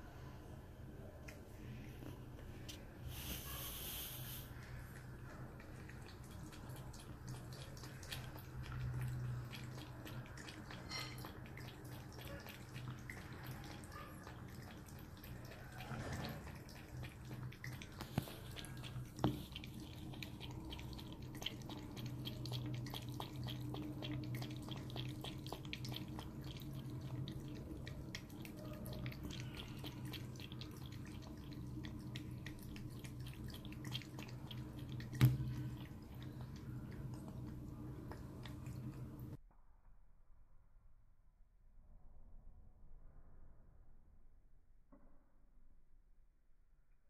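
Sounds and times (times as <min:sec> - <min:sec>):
cat lapping water: 0:01.1 - 0:39.4.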